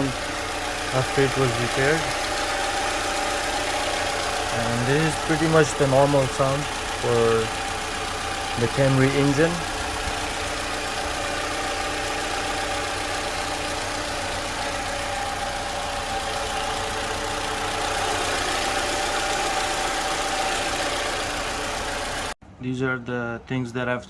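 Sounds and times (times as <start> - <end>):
car engine idling: 0.0 - 22.4.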